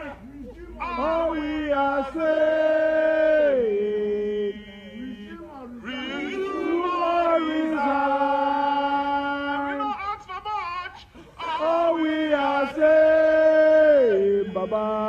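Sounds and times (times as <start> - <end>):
people singing protest chant: 0.0 - 10.3, 11.2 - 15.0.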